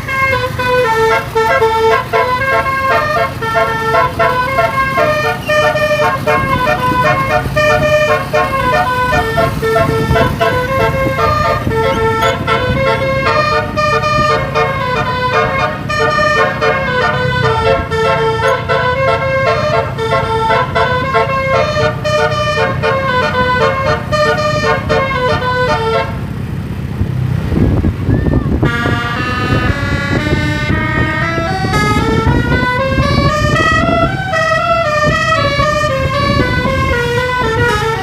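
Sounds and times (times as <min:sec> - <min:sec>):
multi-tone air horn melody: 0:00.0 - 0:26.2, 0:28.6 - 0:38.0
bus engine running: 0:00.0 - 0:38.0.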